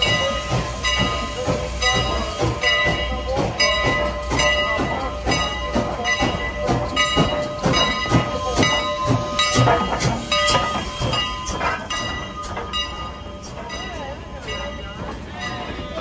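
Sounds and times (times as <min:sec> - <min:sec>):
locomotive bell ringing: 0:00.0 - 0:16.0
train rumble and hiss: 0:00.0 - 0:16.0.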